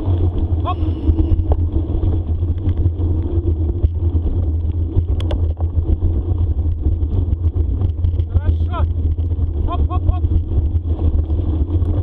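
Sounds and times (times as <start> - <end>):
bicycle rolling on dirt trail: 0.0 - 12.0
wind rumble on microphone: 0.0 - 12.0.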